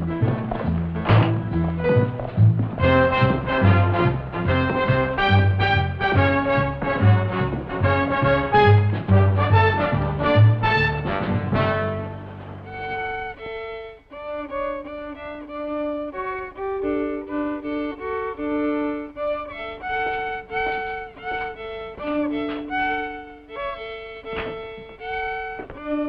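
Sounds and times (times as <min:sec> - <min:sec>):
solo violin tune: 0:00.0 - 0:26.0.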